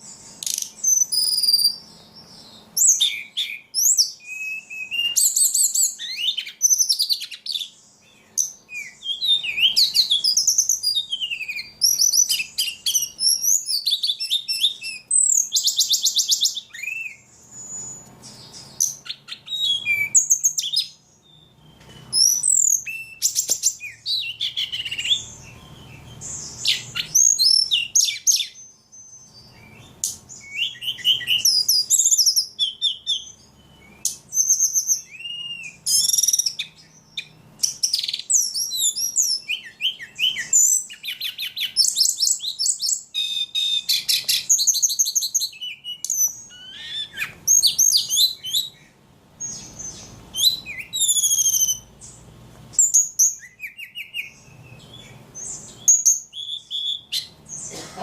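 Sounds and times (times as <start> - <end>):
songbird singing chirps and trills: 0.0 - 57.8.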